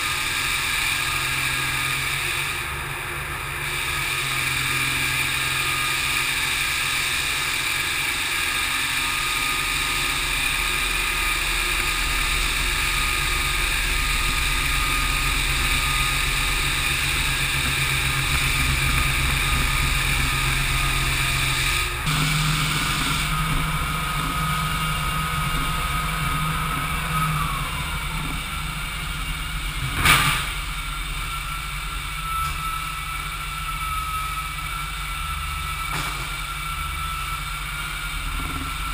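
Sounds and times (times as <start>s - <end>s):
floor sander motor running: 0.0s - 38.9s.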